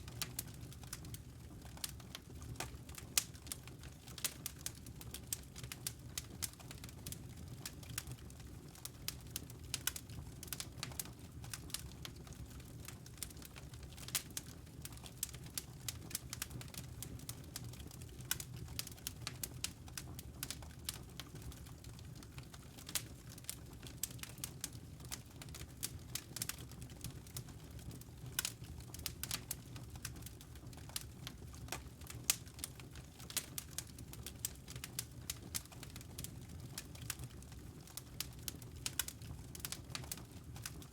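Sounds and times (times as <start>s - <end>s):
fire crackling and popping: 0.0s - 40.9s
low rumble of flame: 0.0s - 40.9s.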